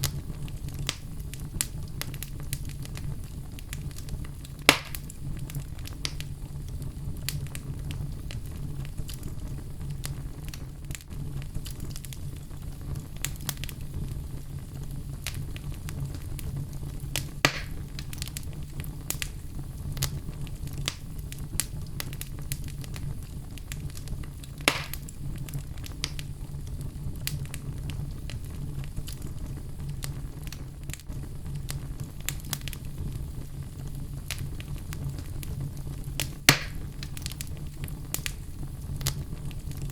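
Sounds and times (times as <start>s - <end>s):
fire crackling: 0.0s - 39.9s
loud fire pops: 0.0s - 39.9s.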